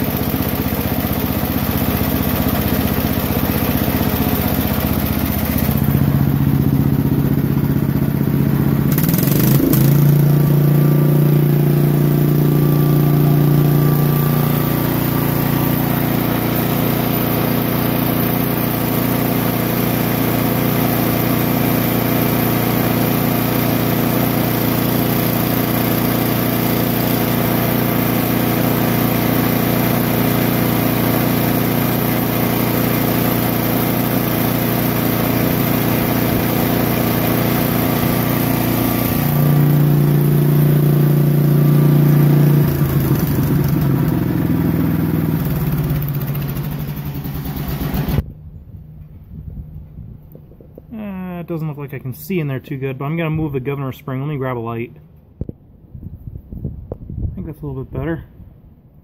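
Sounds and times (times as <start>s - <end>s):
small engine revving up: 0.0s - 48.2s.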